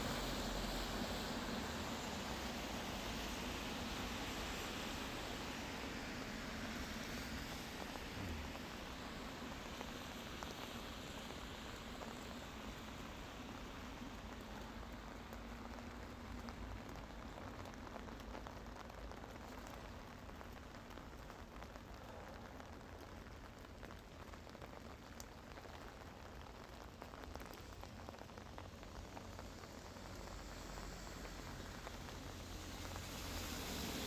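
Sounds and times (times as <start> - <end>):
rain drops ticking on a surface: 0.0 - 34.0.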